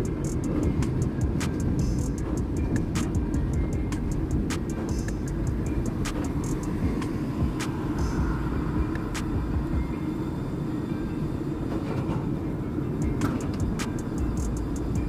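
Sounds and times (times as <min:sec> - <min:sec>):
streetcar rumbling: 0:00.0 - 0:15.0.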